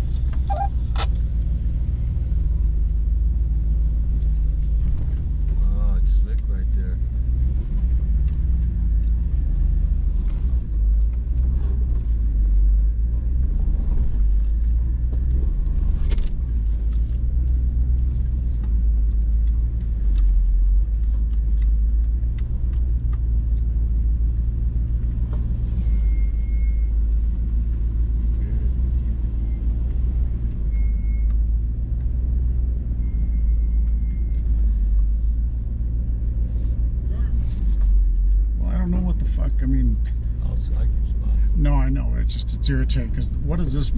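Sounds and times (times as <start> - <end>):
truck engine at low revs: 0.0 - 43.9.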